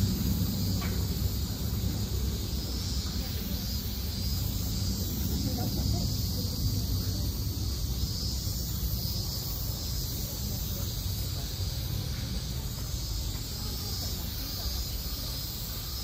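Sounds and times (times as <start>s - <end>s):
constant high hiss: 0.0s - 16.0s.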